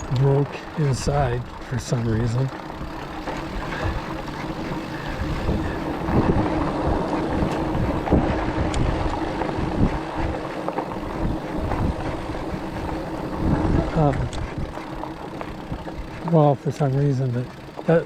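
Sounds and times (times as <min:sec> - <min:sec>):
electric motor whine: 0:00.0 - 0:16.2
wind buffeting microphone: 0:00.0 - 0:16.4.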